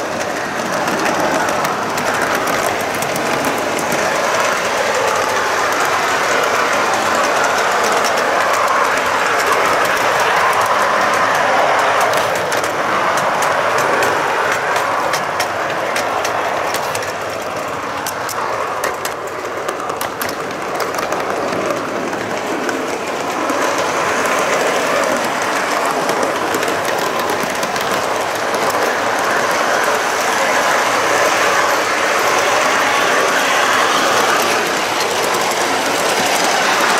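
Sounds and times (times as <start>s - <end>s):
model train wheels rumbling on track: 0.0s - 36.9s.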